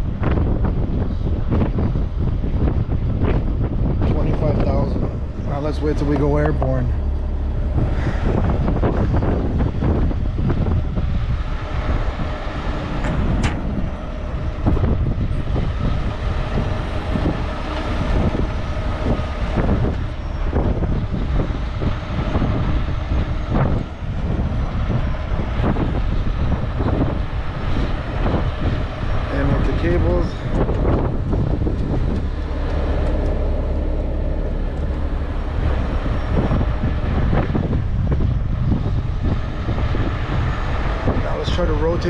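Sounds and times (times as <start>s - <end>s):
faint steady whine: 0.0s - 42.0s
tow truck diesel engine: 0.0s - 42.0s.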